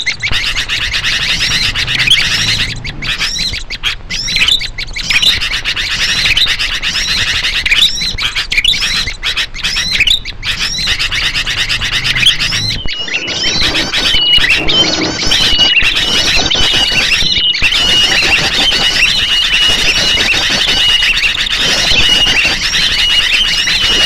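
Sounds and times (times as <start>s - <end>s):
rapid high bird chirps: 0.0s - 24.0s
repeated short bird notes: 0.0s - 24.0s.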